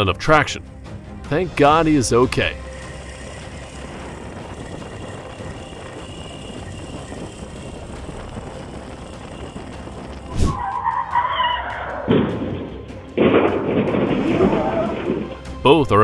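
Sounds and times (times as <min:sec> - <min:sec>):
vehicle noise: 0:00.6 - 0:15.6.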